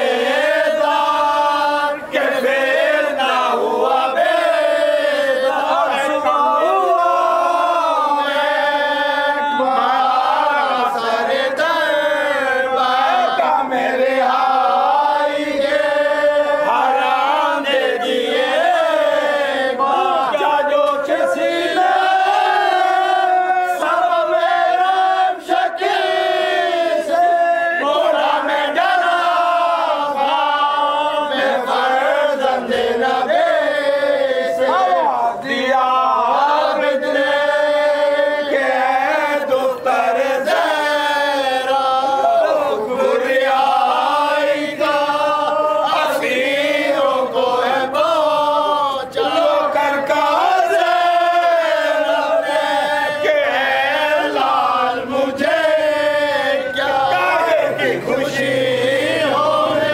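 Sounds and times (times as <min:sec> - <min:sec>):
men chanting in unison: 0:00.0 - 0:59.9.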